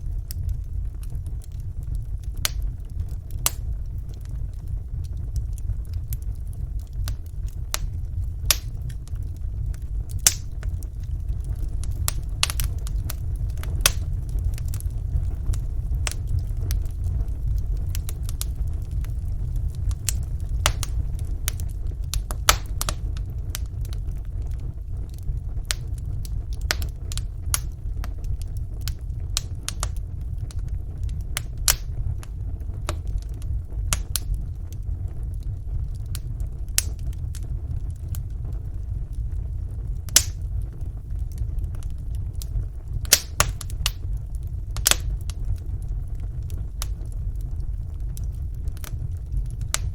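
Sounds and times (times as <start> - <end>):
fire rumbling: 0.0 - 49.9
logs crackling and popping: 0.0 - 49.9.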